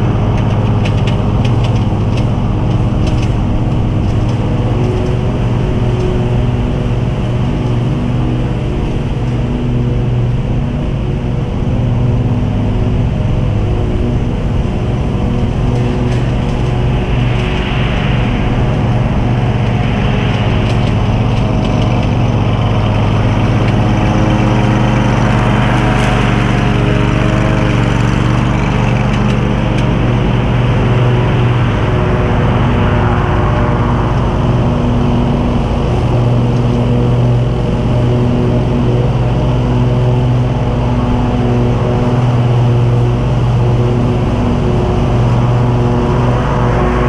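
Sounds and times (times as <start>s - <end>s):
mower engine running: 0.0s - 47.0s.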